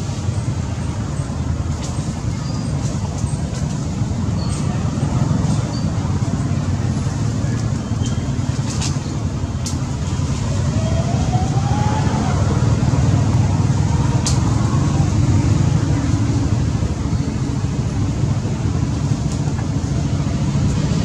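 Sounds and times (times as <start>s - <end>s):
low rumbling noise: 0.0s - 21.0s.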